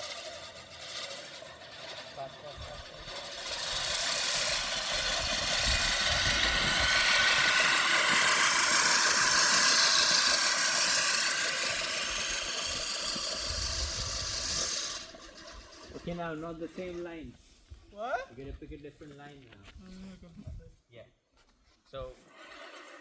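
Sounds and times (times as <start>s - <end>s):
lawnmower engine running: 0.0s - 17.6s, 22.2s - 23.0s.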